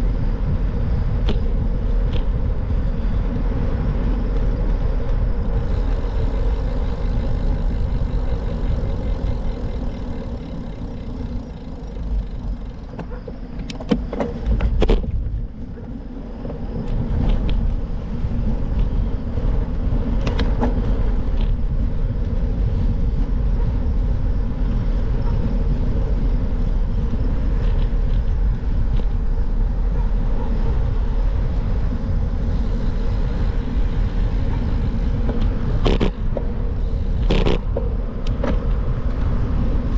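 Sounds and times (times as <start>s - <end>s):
bicycle road noise rumble: 0.0s - 39.9s
wind on microphone: 0.0s - 39.9s.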